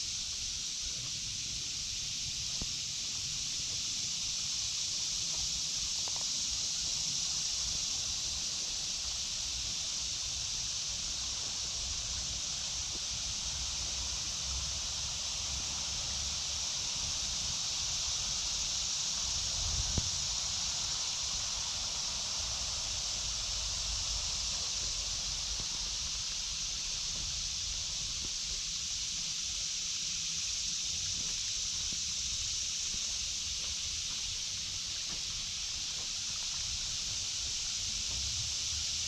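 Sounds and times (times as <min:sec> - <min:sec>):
cicadas chorus: 0:00.0 - 0:39.0.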